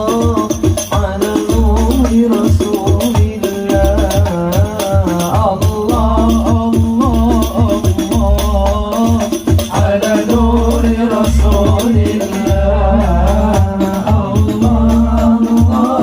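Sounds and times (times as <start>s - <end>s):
deep bass drum beat: 0.0s - 16.0s
frame drums with jingles: 0.0s - 16.0s
person singing devotional melody: 0.0s - 16.0s.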